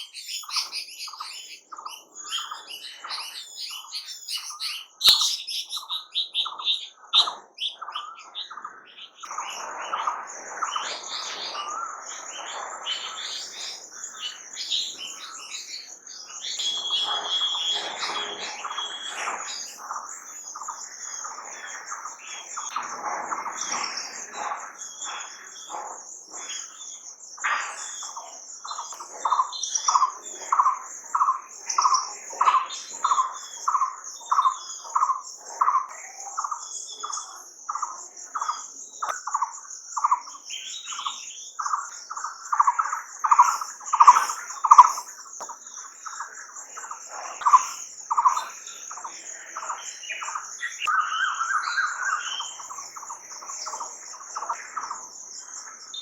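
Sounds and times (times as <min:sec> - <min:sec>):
bird calling: 0:00.0 - 0:56.0.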